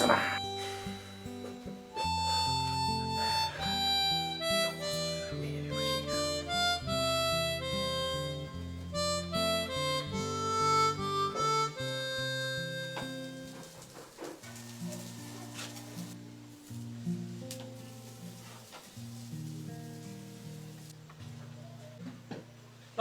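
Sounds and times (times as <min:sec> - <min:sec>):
harmonica melody: 0:00.0 - 0:20.9
guitar chords: 0:00.0 - 0:22.3.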